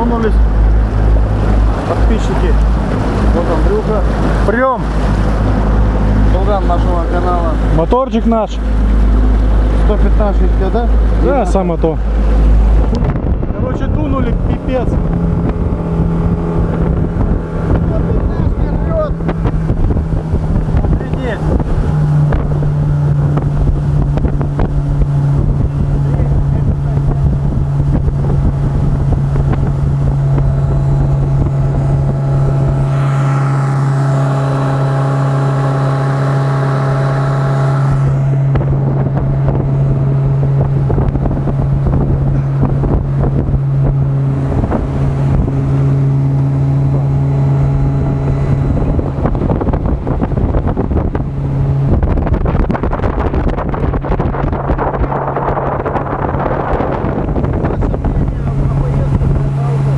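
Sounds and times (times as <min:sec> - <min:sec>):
outboard motor droning: 0:00.0 - 0:59.9
wind and water rushing: 0:00.0 - 0:59.9.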